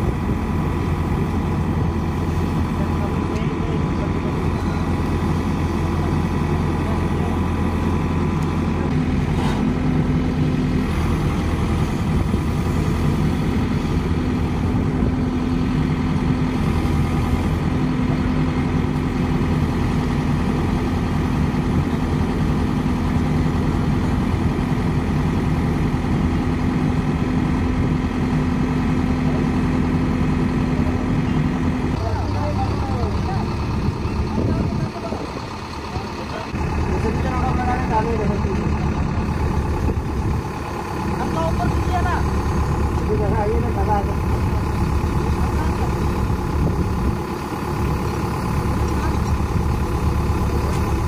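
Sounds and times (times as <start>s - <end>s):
diesel engine running steadily: 0.0s - 51.0s.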